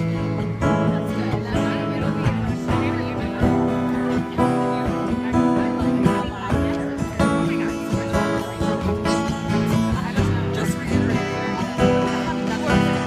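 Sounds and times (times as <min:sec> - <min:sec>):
live band with guitar lead: 0:00.0 - 0:13.0.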